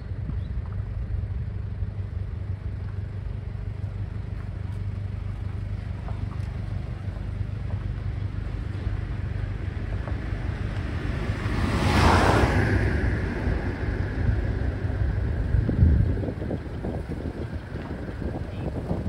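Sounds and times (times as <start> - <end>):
truck diesel engine rumble: 0.0 - 19.0.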